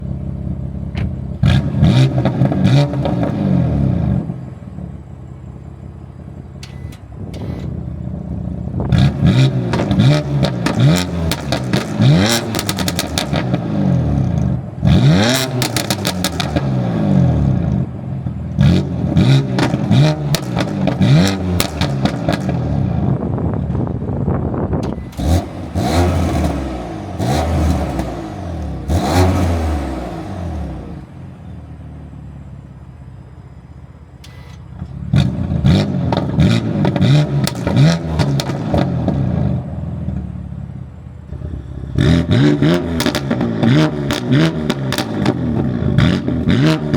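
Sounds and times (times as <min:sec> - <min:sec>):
car engine revving: 0:00.0 - 0:46.9
exhaust crackles: 0:00.0 - 0:46.9.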